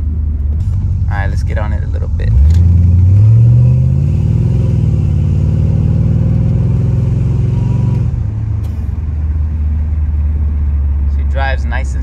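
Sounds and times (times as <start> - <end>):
car engine pulling under throttle: 0.0 - 12.0.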